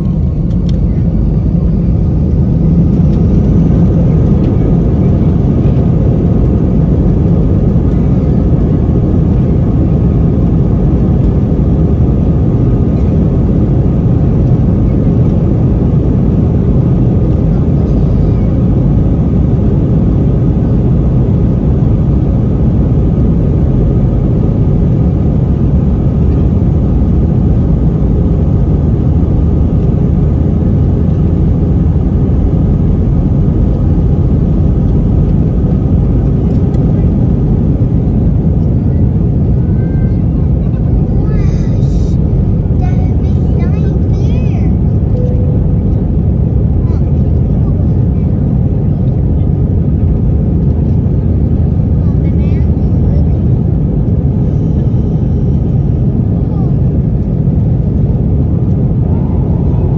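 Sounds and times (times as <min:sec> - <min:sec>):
aircraft engines rumbling: 0:00.0 - 0:59.9.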